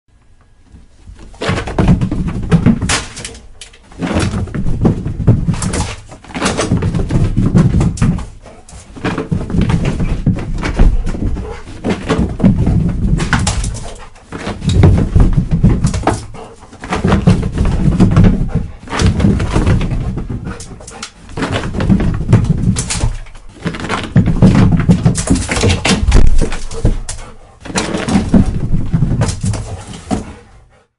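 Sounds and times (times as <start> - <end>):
dog paws running on stairs: 1.1 - 30.9.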